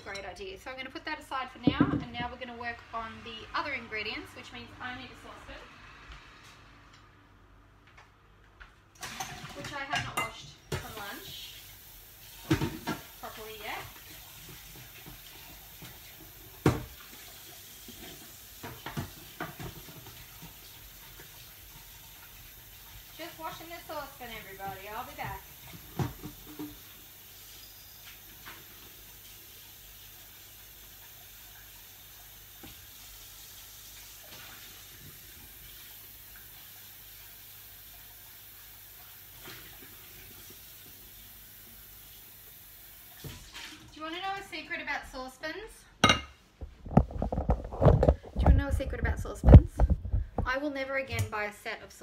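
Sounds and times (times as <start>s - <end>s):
tap water running: 8.6s - 45.3s, 46.0s - 51.6s.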